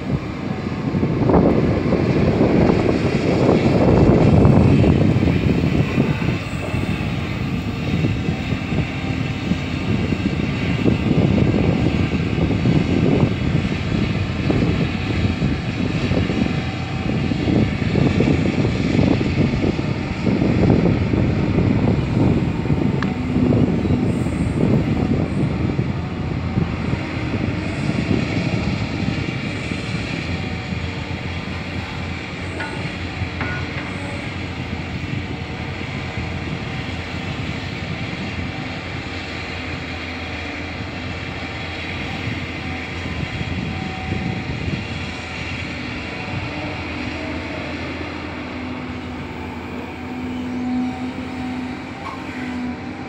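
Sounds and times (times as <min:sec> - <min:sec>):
excavator diesel engine under load: 0:00.0 - 0:53.0.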